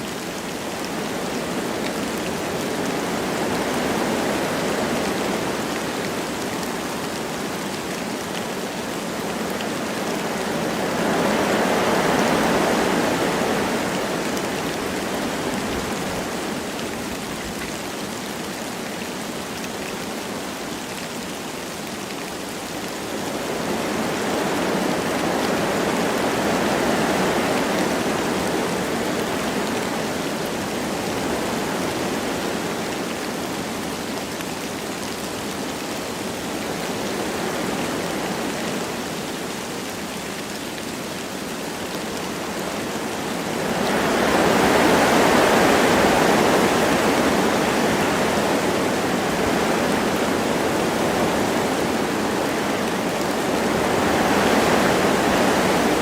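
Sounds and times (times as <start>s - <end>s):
light rain falling: 0.0s - 56.0s
wind through forest trees: 0.0s - 56.0s.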